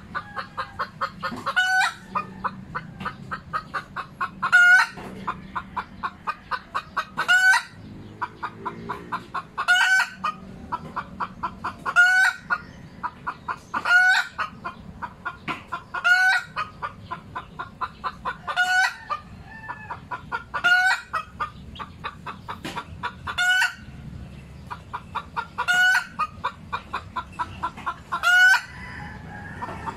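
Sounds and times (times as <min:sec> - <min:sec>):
chicken cackling: 0:00.0 - 0:29.9.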